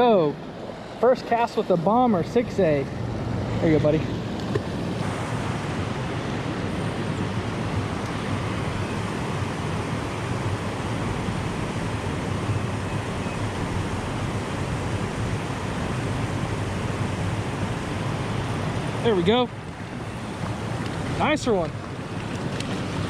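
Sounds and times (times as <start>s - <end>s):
creek water rushing: 0.0s - 23.0s
wind on microphone: 2.9s - 23.0s.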